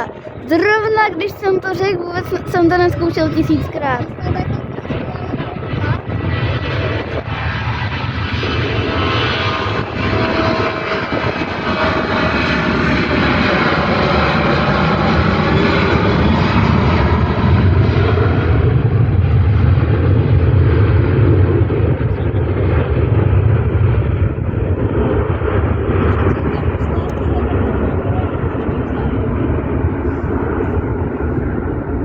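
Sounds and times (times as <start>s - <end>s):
deep rumble of plane: 0.0s - 32.0s
jet engines roaring: 0.0s - 32.0s.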